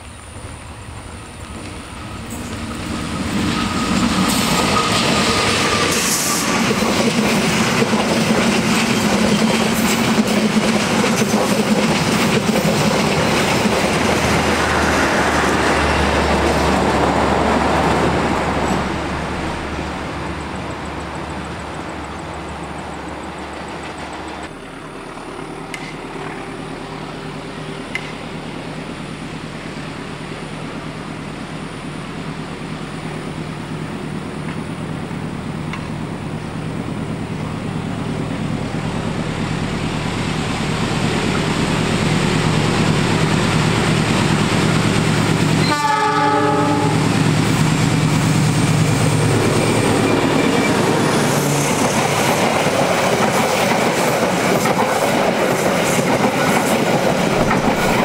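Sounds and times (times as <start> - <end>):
train wheels rumbling and clattering: 0.0 - 58.0.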